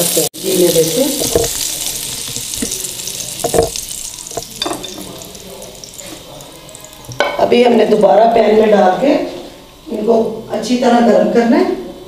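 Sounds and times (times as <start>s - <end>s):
skewers sizzling in oil: 0.0s - 10.1s.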